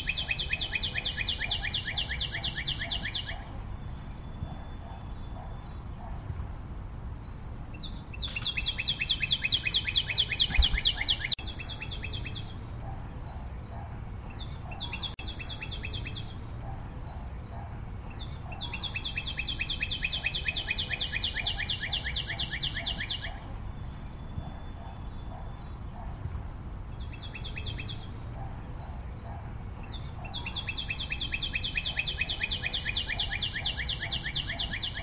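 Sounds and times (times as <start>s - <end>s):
bird singing rapid trills: 0.0s - 6.4s, 7.1s - 26.3s, 26.9s - 35.0s.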